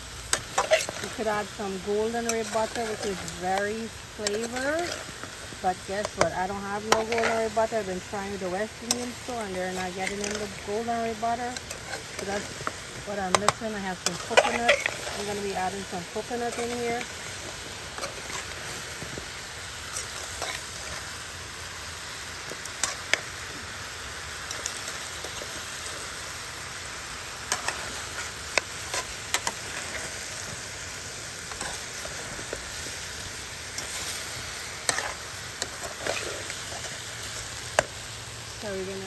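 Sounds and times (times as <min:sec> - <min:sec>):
food sizzling in a pot: 0:00.0 - 0:39.0.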